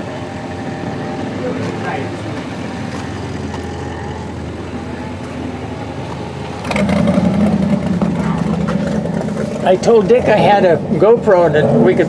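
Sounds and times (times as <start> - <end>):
louder engine humming: 0.0 - 12.0
vehicle engine running: 0.0 - 12.0.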